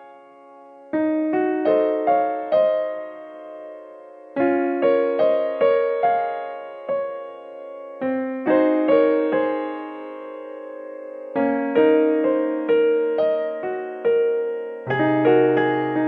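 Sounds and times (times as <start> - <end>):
gentle electric piano music: 0.0 - 16.0.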